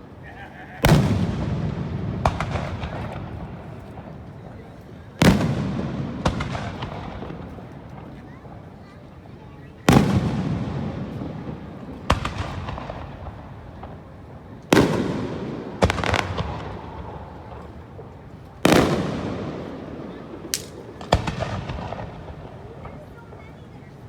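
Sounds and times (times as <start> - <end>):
fireworks crackling: 0.0 - 24.0
fireworks bursting with booms: 0.8 - 8.8, 9.7 - 24.0.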